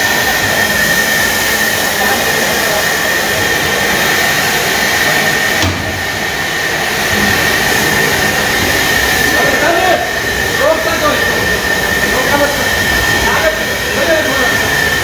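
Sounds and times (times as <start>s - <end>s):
steam locomotive blowing off steam: 0.0s - 15.0s.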